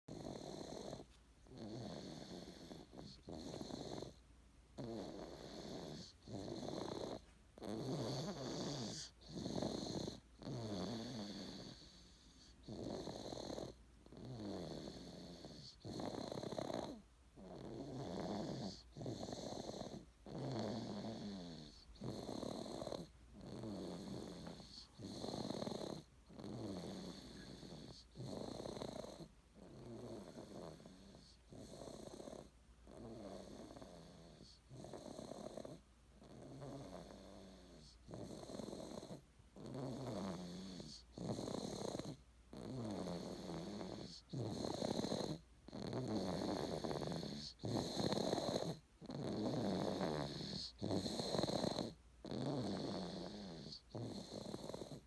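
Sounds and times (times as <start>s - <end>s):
snoring: 0.1s - 4.2s, 4.8s - 55.0s.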